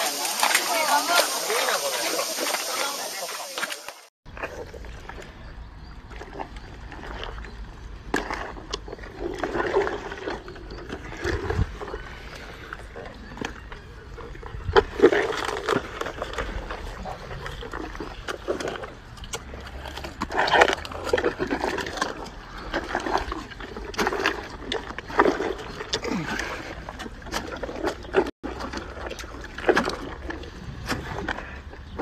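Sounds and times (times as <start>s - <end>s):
hippopotamus chewing fruit: 0.0s - 32.0s.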